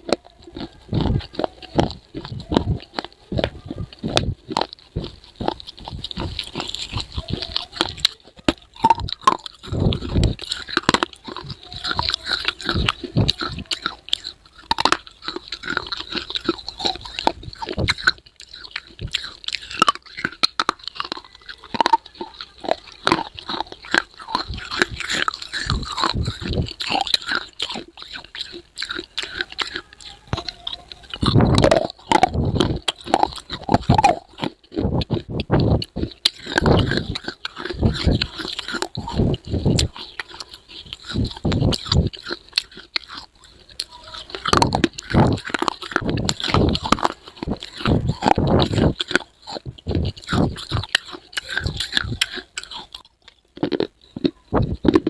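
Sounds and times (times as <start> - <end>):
person crunching baked clay: 0.0 - 55.0.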